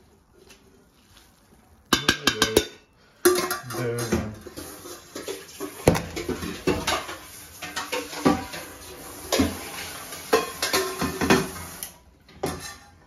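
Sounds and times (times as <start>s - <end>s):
pots and utensils knocking and clinking: 1.9s - 13.0s.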